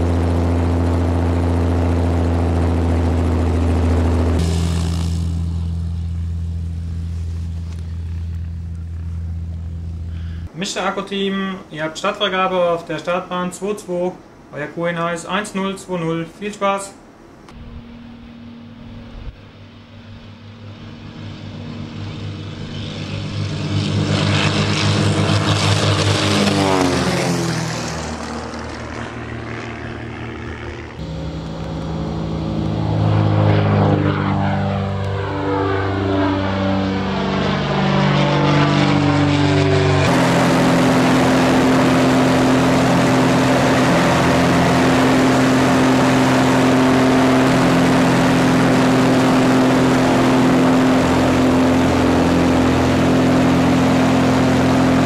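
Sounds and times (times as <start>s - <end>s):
engine drone inside cockpit: 0.0s - 10.5s, 17.1s - 26.3s, 27.8s - 55.0s
biplane engine climbing past: 0.0s - 55.0s
biplane engines at full power: 0.0s - 55.0s.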